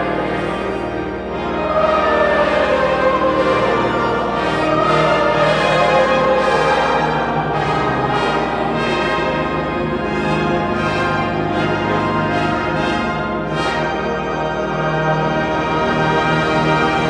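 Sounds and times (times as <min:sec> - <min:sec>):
brass instruments playing chords: 0:00.0 - 0:17.0.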